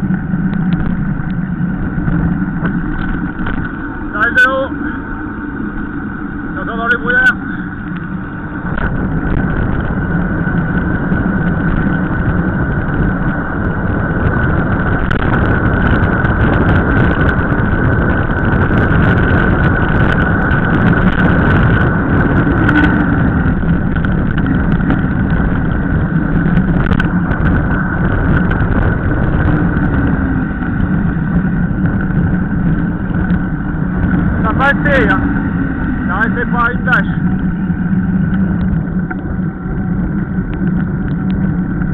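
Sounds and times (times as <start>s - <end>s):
bike tyres rolling on asphalt: 0.0s - 41.9s
wind noise on microphone: 0.0s - 41.9s.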